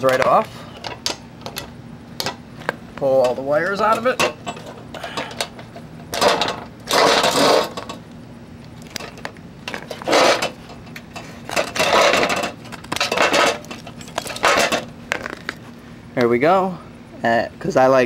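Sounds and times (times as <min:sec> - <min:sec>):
metallic rattling and scraping: 0:00.0 - 0:08.0, 0:08.9 - 0:15.6.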